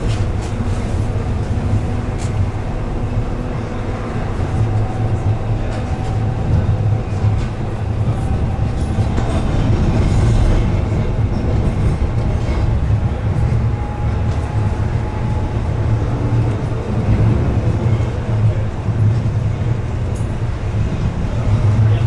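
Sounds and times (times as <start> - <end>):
tram wheels rumbling on track: 0.0 - 22.0.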